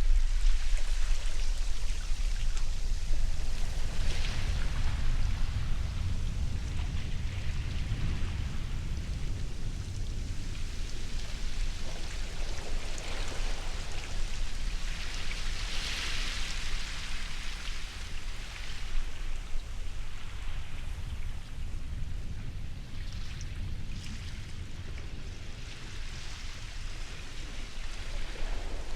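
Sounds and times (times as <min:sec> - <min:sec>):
ocean surf washing: 0:00.0 - 0:28.9.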